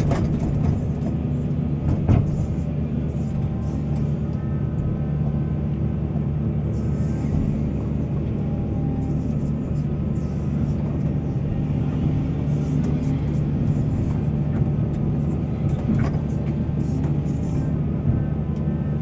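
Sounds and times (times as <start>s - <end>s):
excavator diesel engine drone: 0.0s - 19.0s.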